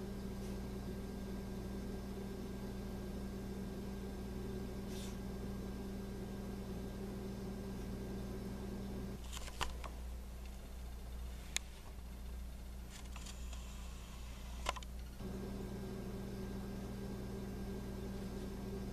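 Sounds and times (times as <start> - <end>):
low room hum with steady tones: 0.0 - 18.9.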